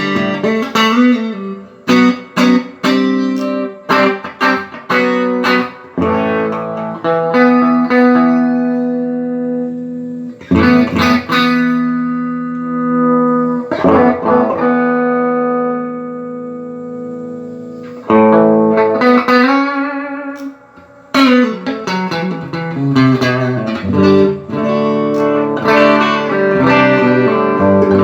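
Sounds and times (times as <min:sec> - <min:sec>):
electric guitar notes and chords: 0:00.0 - 0:28.0.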